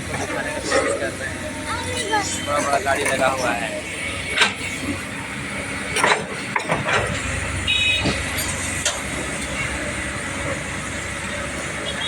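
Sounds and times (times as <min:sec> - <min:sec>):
heavy vehicle engines rumbling: 0:00.0 - 0:12.0.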